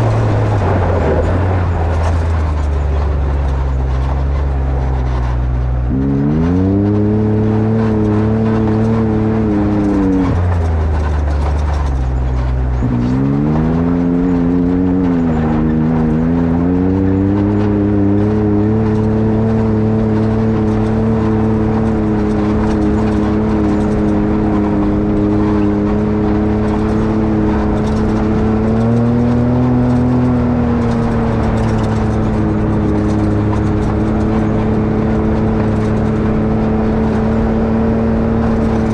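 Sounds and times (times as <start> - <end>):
engine revving and idling: 0.0 - 38.9.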